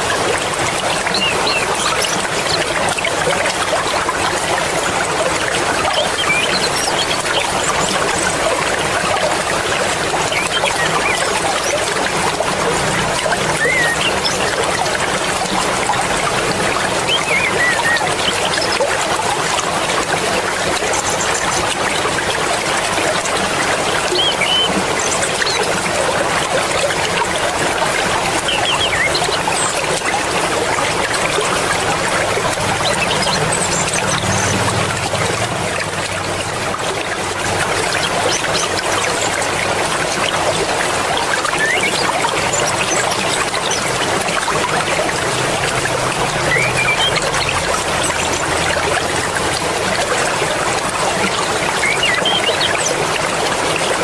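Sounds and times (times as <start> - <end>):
mountain river rushing over rocks: 0.0 - 54.0.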